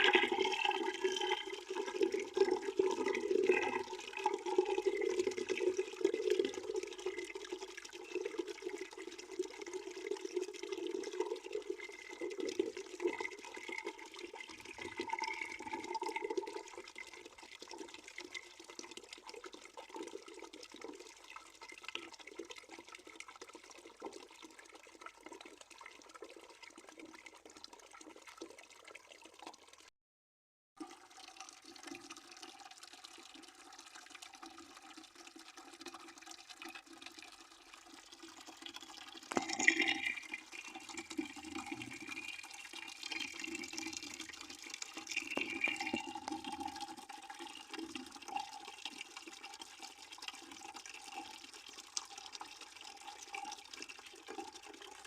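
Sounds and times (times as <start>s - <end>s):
water pouring into a bucket: 0.0s - 29.9s, 30.8s - 55.0s.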